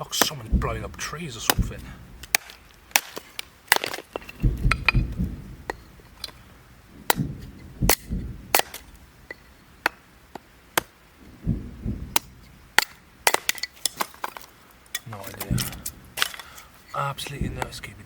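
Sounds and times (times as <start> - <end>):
wood being chopped: 0.0 - 6.4, 7.0 - 16.6
low rumbling booms: 0.0 - 13.3, 15.1 - 16.4, 17.0 - 18.0.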